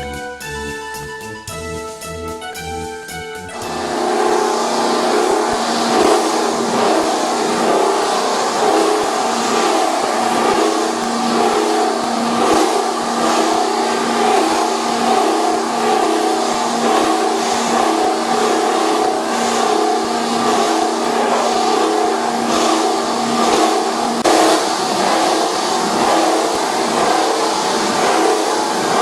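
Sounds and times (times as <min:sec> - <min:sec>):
machine motor hum: 0:03.6 - 0:29.0
noisy machine surges: 0:03.6 - 0:29.0.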